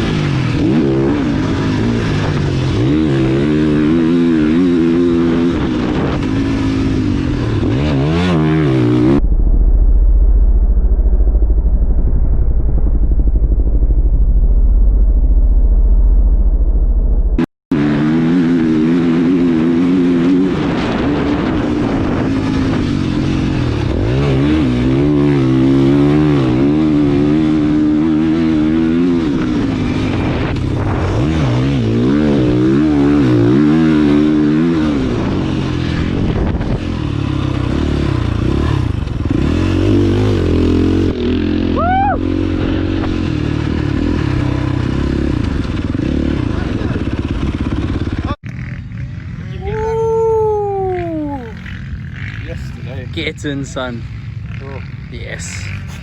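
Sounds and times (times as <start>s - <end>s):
dirt bike engine revving: 0.0s - 9.2s, 17.7s - 56.0s.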